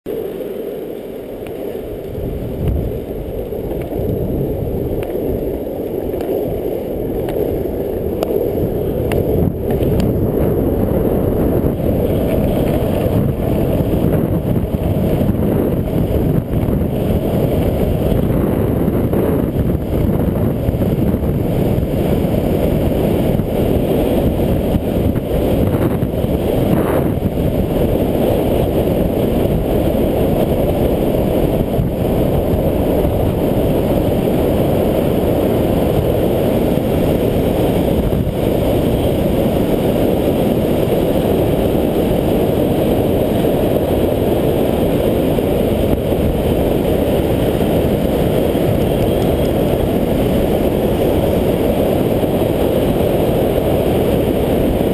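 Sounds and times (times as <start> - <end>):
longboard wheels rolling on asphalt: 0.1 - 54.9
wind buffeting microphone: 0.2 - 54.9.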